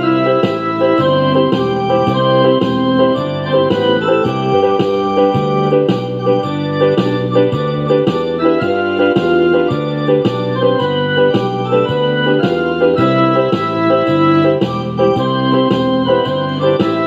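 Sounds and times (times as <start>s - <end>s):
instrumental music with keyboard chords: 0.0s - 17.0s.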